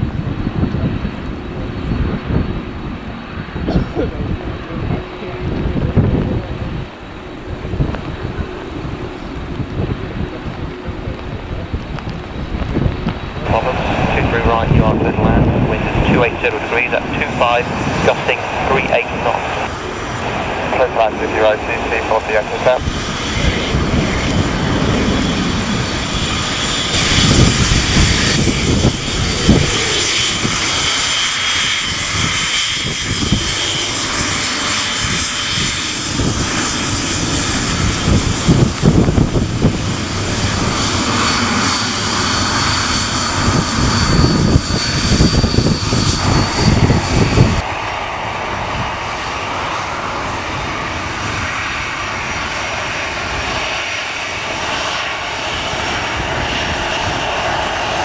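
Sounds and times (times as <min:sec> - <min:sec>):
airliner engines running: 0:00.0 - 0:58.0
wind buffeting microphone: 0:00.0 - 0:58.0.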